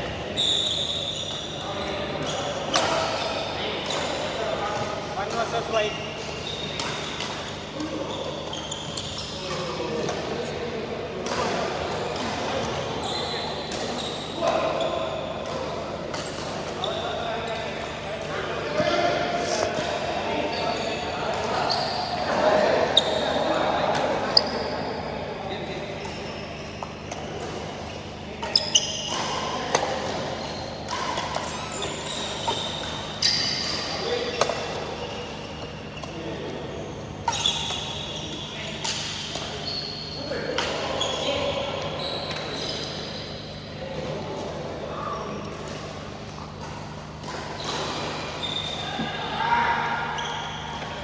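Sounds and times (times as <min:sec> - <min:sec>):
shoes squeaking on court: 0:00.0 - 0:10.3, 0:11.9 - 0:18.0, 0:18.7 - 0:23.5, 0:24.2 - 0:43.8, 0:45.0 - 0:49.2, 0:50.1 - 0:51.0.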